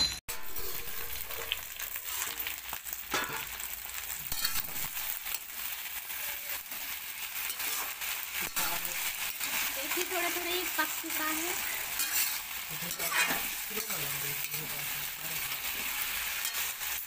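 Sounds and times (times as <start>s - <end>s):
metal spatula scraping and stirring: 0.3s - 17.0s
vegetables sizzling in oil: 0.3s - 17.0s.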